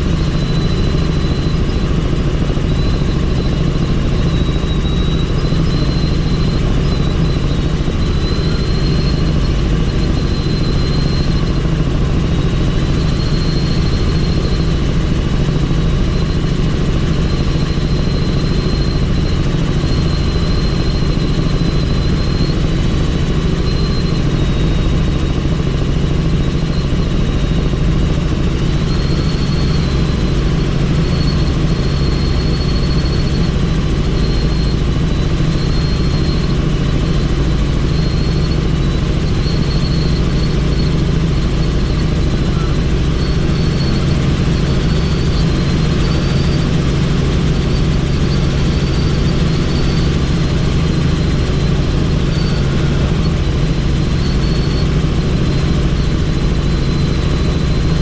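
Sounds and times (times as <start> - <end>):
helicopter rotor and engine noise: 0.0 - 58.0
thin high whine: 0.0 - 58.0.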